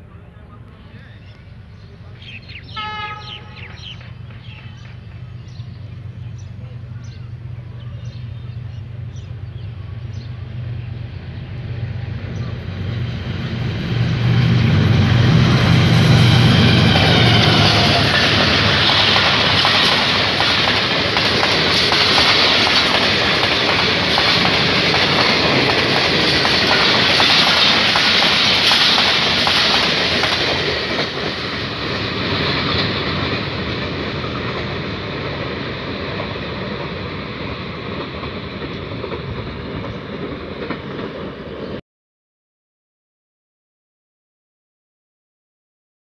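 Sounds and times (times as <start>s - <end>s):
train passing at speed: 0.0s - 41.8s.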